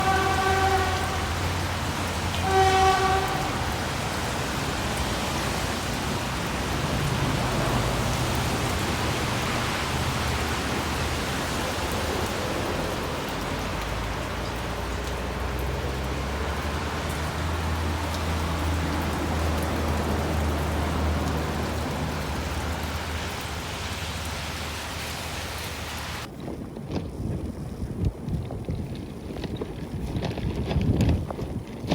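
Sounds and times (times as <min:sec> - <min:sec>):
steady rain: 0:00.0 - 0:26.8.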